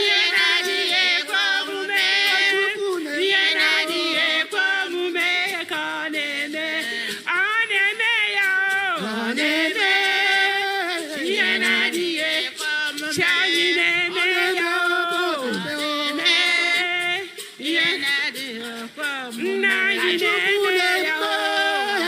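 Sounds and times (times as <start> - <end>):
person singing long notes: 0.0 - 22.0.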